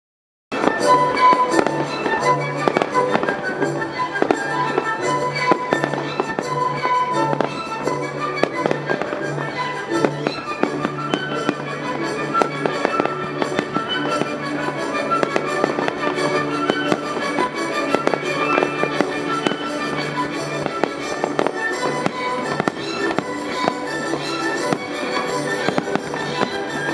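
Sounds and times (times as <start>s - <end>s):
fireworks bangs and crackles: 0.5s - 26.9s
music playing: 0.5s - 26.9s.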